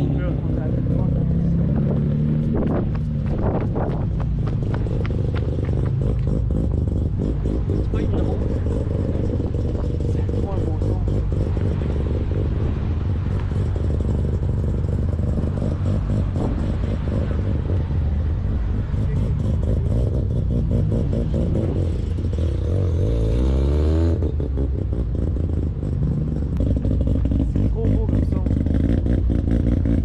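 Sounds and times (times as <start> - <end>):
rotary engine idling and revving: 0.0 - 30.0.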